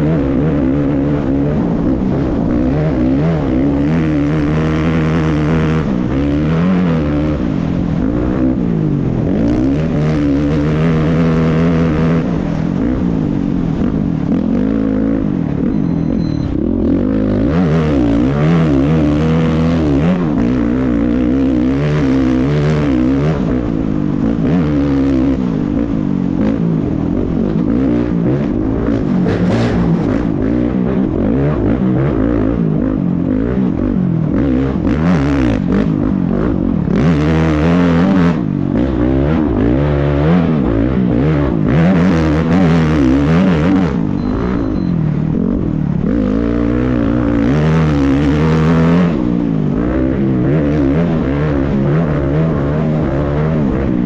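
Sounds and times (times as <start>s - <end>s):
off-road race engine revving: 0.0s - 54.0s.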